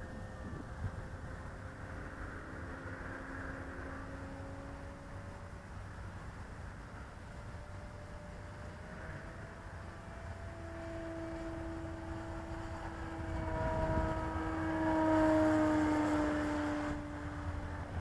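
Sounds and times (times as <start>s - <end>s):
model plane propeller whining: 0.0s - 18.0s.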